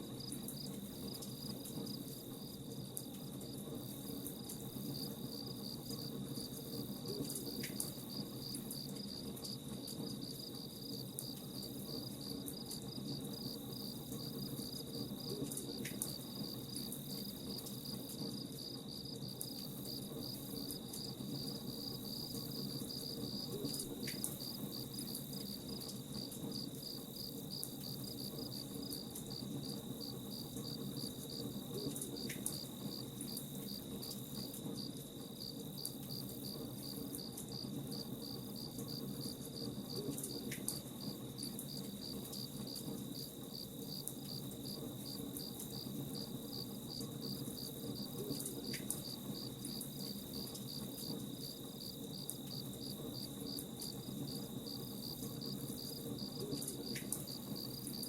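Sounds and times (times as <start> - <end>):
crickets chirping: 0.1 - 58.0.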